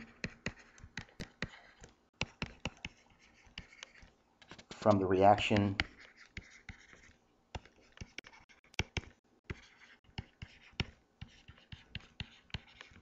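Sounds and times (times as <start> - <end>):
stylus tapping on a tablet: 0.0 - 4.0, 5.4 - 13.0.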